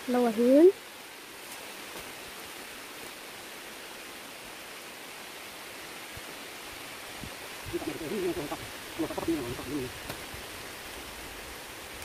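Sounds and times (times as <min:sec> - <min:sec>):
forest ambience hiss: 0:00.0 - 0:12.0.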